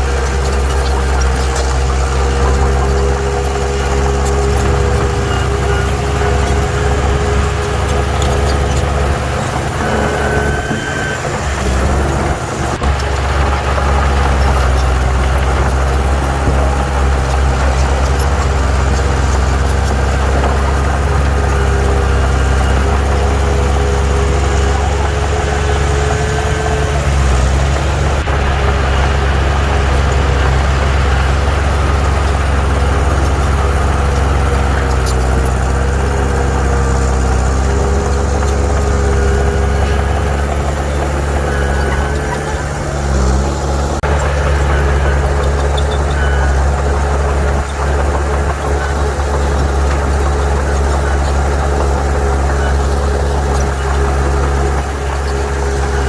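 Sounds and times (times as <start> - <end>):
heavy diesel engine drone: 0.0 - 56.0.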